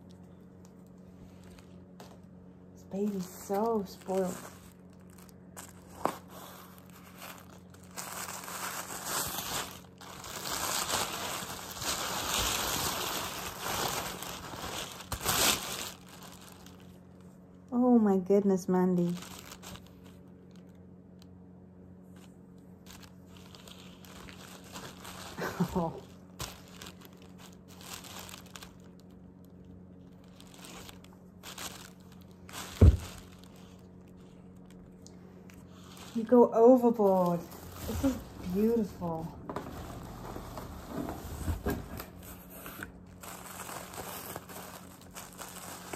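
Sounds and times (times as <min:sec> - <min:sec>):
tissue paper rustling: 0:01.0 - 0:17.1, 0:18.9 - 0:20.6, 0:22.2 - 0:34.8, 0:35.6 - 0:45.9.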